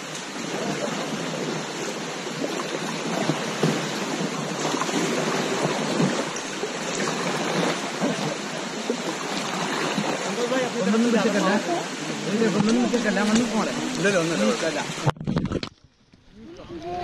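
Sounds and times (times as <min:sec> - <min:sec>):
floodwater rushing and splashing: 0:00.0 - 0:15.7
paddle splashing water: 0:00.0 - 0:17.0.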